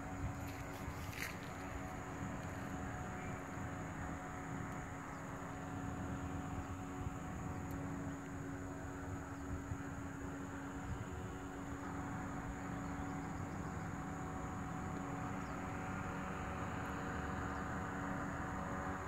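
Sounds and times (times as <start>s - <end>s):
propeller engine humming: 0.0s - 19.0s.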